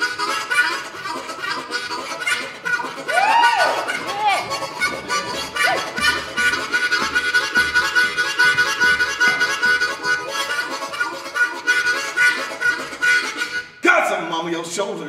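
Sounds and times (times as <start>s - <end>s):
harmonica chords: 0.0s - 15.0s.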